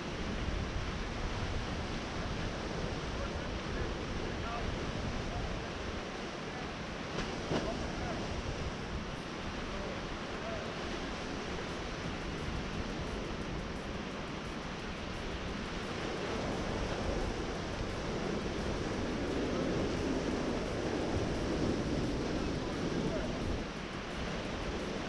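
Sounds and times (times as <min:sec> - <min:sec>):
sea waves washing on shore: 0:00.0 - 0:25.0
wind rumbling on microphone: 0:00.0 - 0:25.0.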